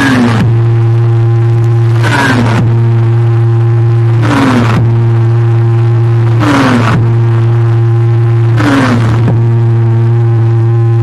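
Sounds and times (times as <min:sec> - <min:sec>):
loud steady bass tone: 0:00.0 - 0:11.0.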